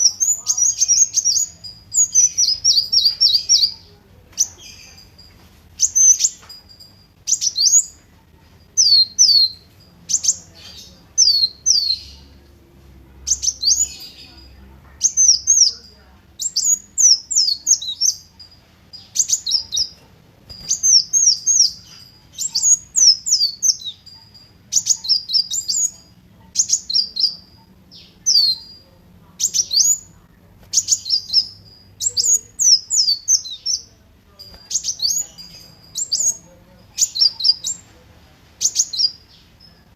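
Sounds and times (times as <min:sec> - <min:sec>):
sunbird singing: 0:00.0 - 0:39.9.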